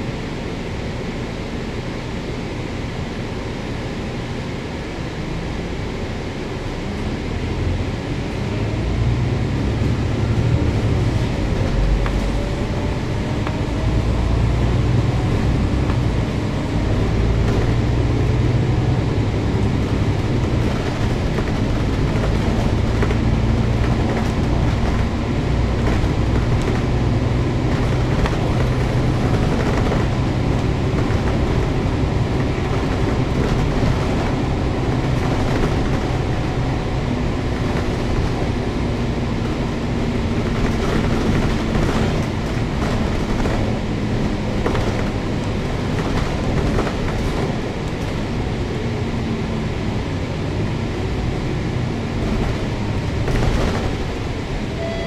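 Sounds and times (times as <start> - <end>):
bus engine low drone: 0.0 - 55.0.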